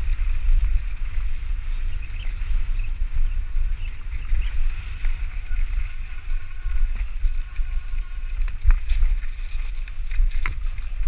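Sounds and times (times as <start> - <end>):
bike knocking and rattling: 0.0 - 11.0
tyre and trail noise: 0.0 - 11.0
wind buffeting microphone: 0.0 - 11.0.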